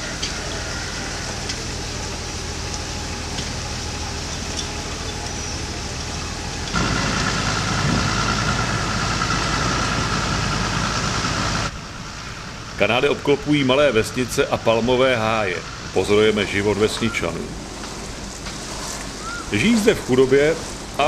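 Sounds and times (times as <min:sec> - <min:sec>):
boat engine humming: 0:00.0 - 0:21.0
engine drone with high whine: 0:00.0 - 0:21.0.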